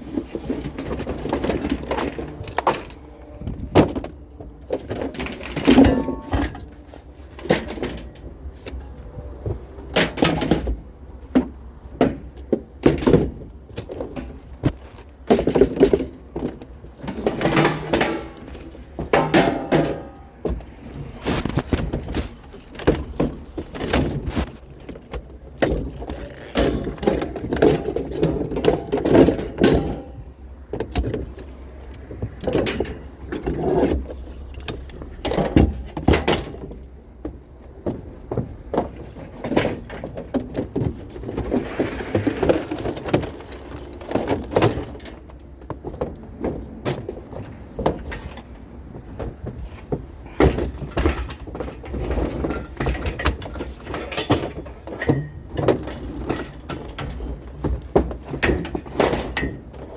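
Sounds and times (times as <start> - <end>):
junk knocking and clattering: 0.0 - 59.9.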